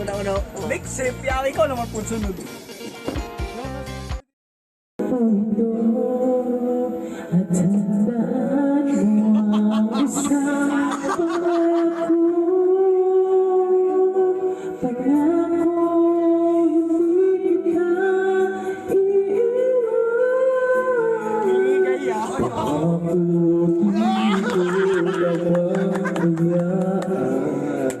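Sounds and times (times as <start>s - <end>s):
music: 0.0s - 4.3s, 5.0s - 28.0s
person singing long notes: 5.0s - 28.0s.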